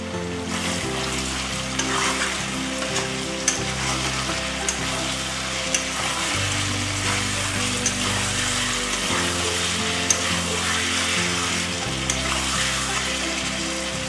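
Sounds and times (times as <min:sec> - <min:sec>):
food sizzling in a pan: 0:00.5 - 0:13.9.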